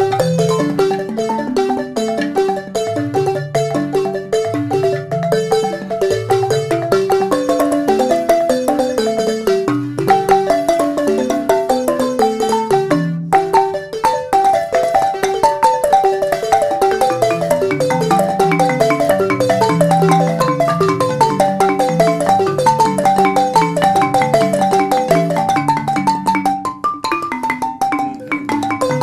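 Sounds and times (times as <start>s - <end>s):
upbeat mallet music: 0.0s - 29.0s.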